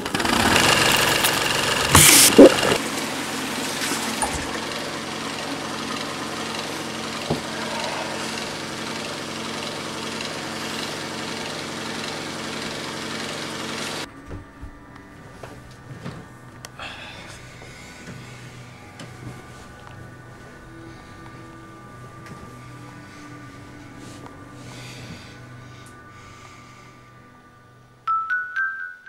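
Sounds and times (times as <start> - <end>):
motor running drone: 0.0 - 28.0.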